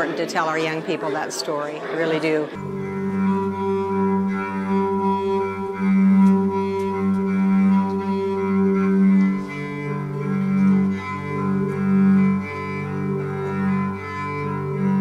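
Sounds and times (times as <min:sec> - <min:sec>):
slow low sustained music: 0:02.6 - 0:15.0.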